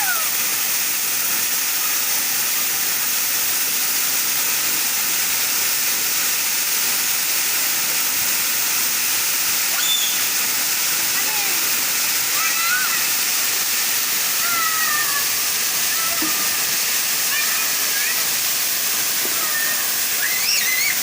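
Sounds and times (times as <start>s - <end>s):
waterfall hiss: 0.0s - 21.0s.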